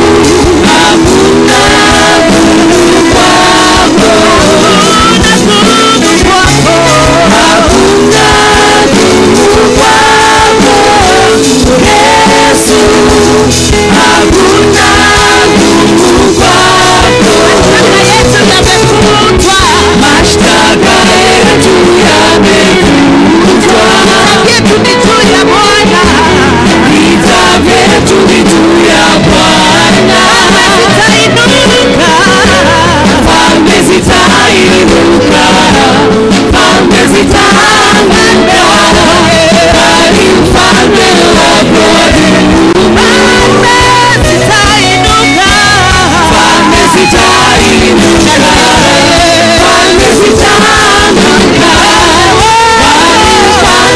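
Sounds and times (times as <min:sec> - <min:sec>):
drum beat: 0:00.0 - 0:53.9
gospel band with singers: 0:00.0 - 0:53.9.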